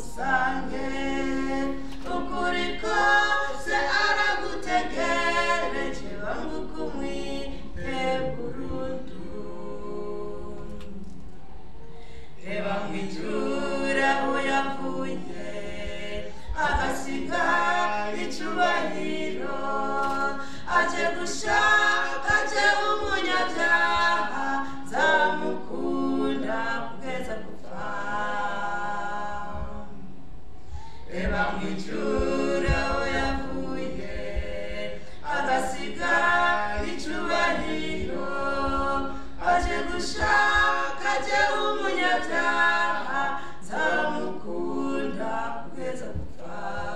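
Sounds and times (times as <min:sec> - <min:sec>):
group singing unaccompanied: 0:00.0 - 0:46.9.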